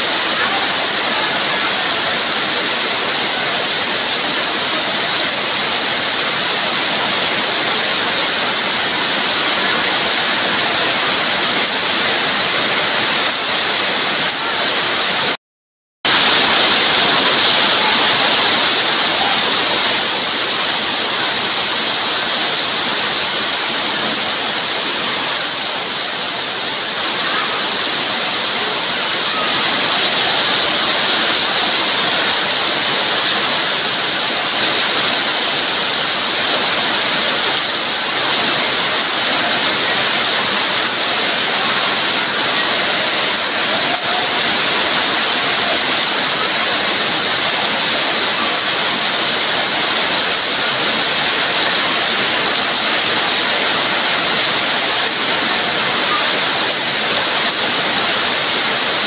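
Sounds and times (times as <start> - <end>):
heavy rain pouring: 0.0 - 15.4, 16.0 - 59.0.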